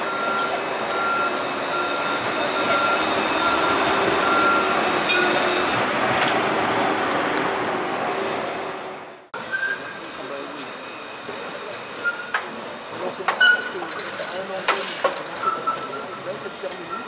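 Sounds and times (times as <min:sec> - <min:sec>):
tram running past: 0:00.0 - 0:17.0.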